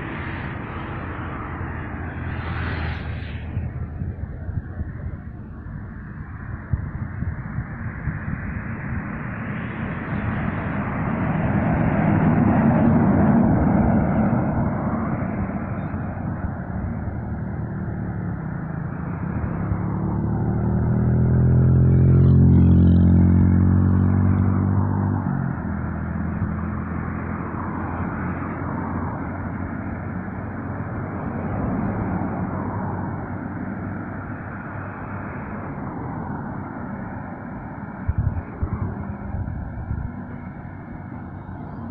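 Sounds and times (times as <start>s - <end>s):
truck diesel engine passing: 0.0s - 6.6s, 8.6s - 41.9s
vehicle passing: 0.0s - 41.9s.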